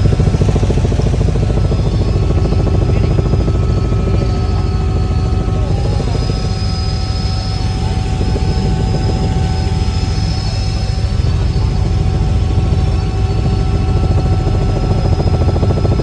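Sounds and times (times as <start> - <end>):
helicopter rotor chop: 0.0 - 16.0
helicopter turbine whine: 0.0 - 16.0.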